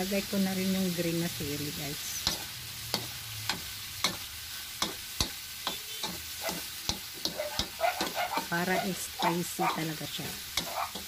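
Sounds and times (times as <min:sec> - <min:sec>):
stir-fry sizzling in pan: 0:00.0 - 0:11.0.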